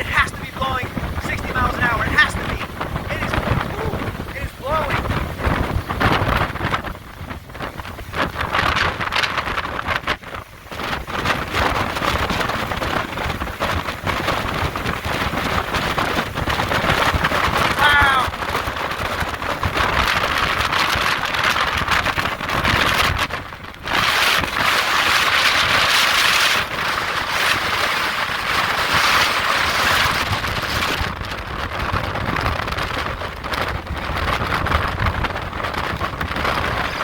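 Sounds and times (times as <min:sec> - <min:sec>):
heavy rain: 0:00.0 - 0:37.0
strong wind: 0:00.0 - 0:37.0
wind buffeting microphone: 0:00.0 - 0:37.0.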